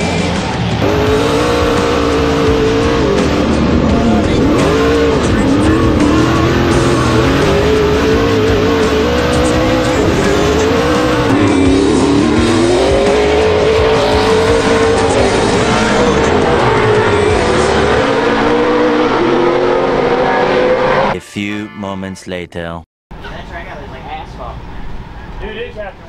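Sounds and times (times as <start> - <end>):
race truck engine revving: 0.0 - 21.2.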